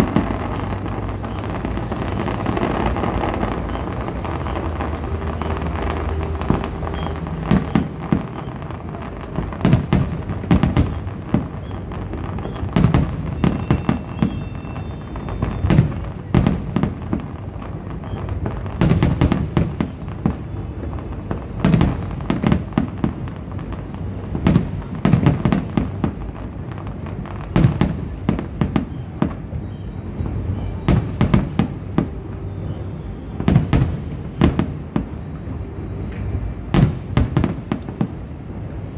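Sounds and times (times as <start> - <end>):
continuous low rumble: 0.0 - 38.9
fireworks bursting with sharp bangs: 0.0 - 38.9.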